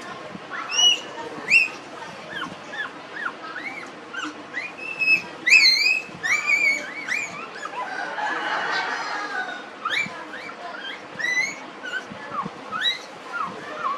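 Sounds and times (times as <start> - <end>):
puppies squeaking and whimpering: 0.6 - 8.0, 9.8 - 13.9.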